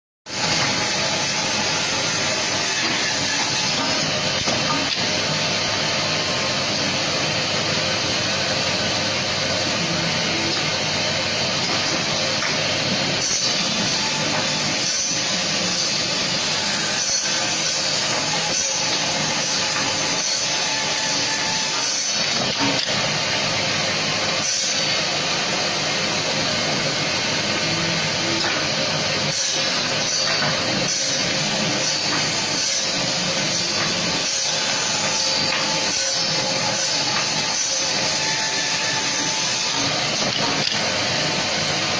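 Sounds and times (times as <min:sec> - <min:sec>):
sewing machine hiss and whir: 0:00.3 - 0:41.9.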